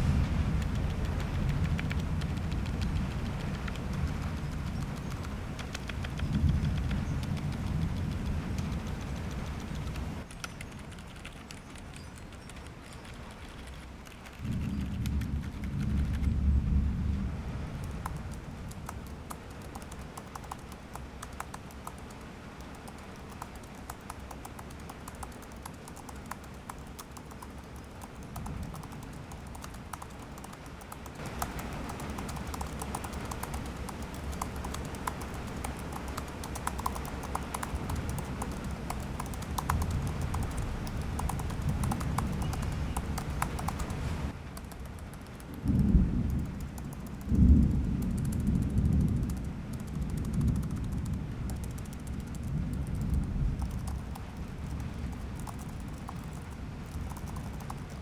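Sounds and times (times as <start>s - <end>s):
typing on keyboard: 0.0s - 16.5s, 17.8s - 58.0s.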